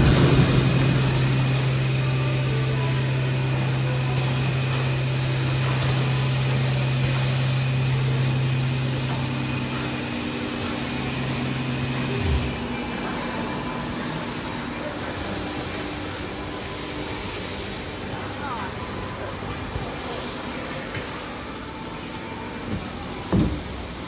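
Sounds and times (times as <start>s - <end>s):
machine motor hum: 0.0s - 24.0s.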